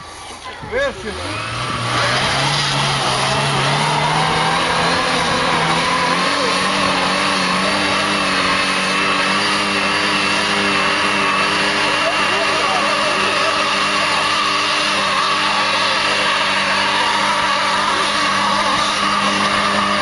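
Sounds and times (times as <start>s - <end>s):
car engine revving: 0.8s - 20.0s.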